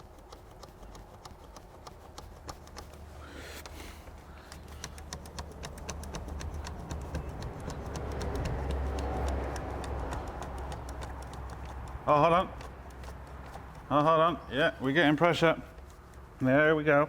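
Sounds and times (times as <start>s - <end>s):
hand pump clicking: 0.0s - 16.5s.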